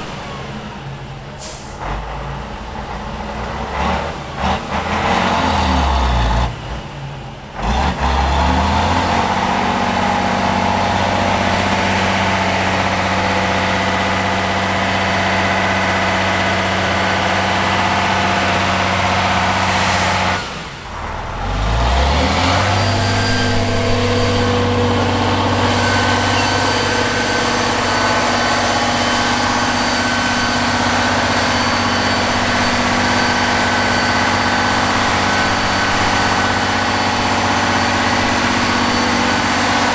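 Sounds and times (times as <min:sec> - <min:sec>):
diesel truck engine under load: 0:00.0 - 0:39.9.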